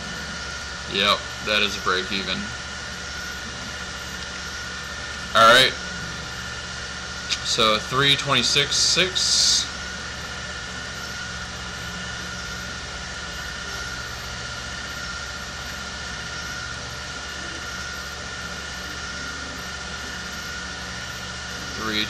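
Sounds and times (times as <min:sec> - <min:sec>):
faint steady whine: 0:00.0 - 0:22.0
low machine hum: 0:00.0 - 0:22.0.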